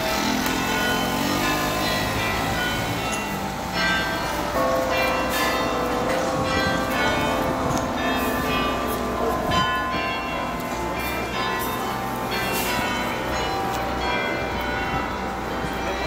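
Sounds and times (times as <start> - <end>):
carillon bells playing melody: 0.0 - 16.0.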